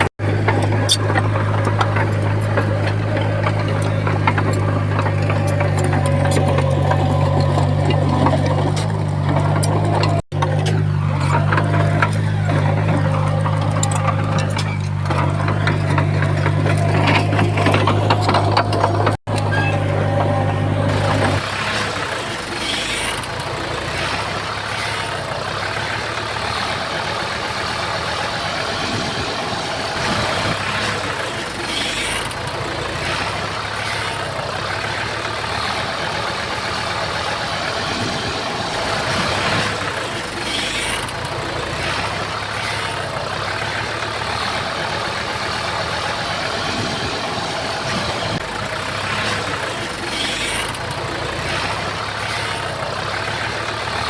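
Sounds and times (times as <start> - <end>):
bulldozer diesel engine clattering: 0.0 - 54.0.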